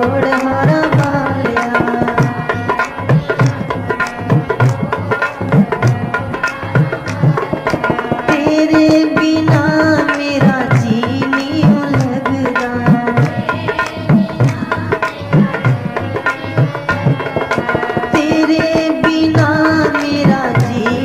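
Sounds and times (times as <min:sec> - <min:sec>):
hand drums rhythm: 0:00.0 - 0:21.0.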